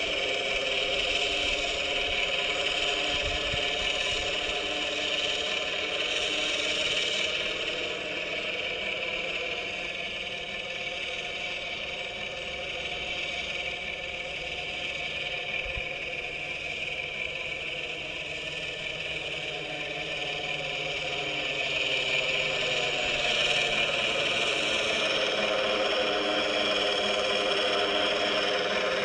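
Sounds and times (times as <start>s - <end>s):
quadcopter propellers whining: 0.0s - 29.0s
simulated helicopter engine sound: 0.0s - 29.0s.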